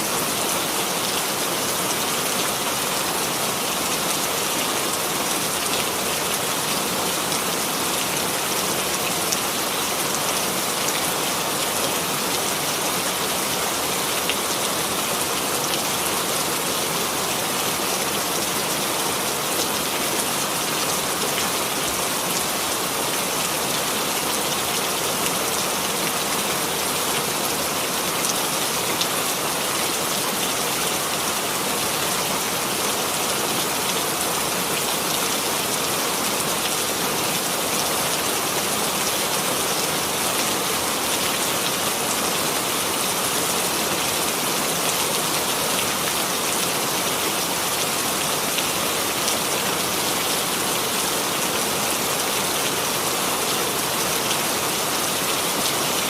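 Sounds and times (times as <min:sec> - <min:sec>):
rain hissing on a surface: 0:00.0 - 0:56.0.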